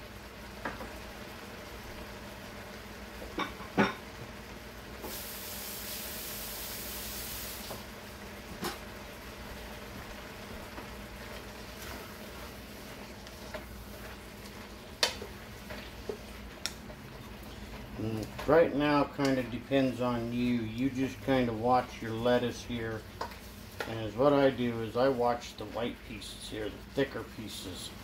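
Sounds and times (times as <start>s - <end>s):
stir-fry sizzling in a wok: 0.0s - 28.0s.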